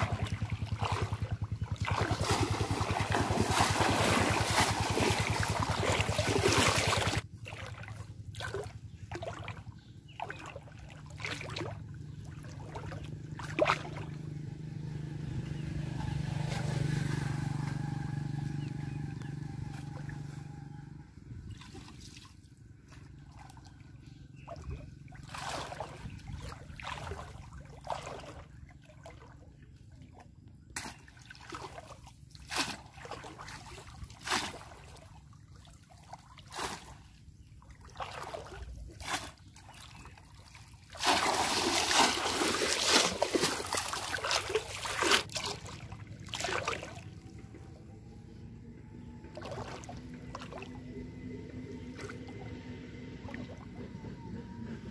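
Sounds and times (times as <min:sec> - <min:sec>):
pond water splashing: 0:00.0 - 0:54.9.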